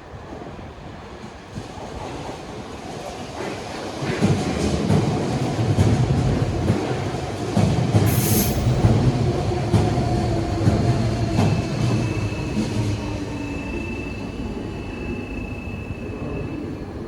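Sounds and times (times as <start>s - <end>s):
train wheels rumbling on rail: 0.1s - 17.0s.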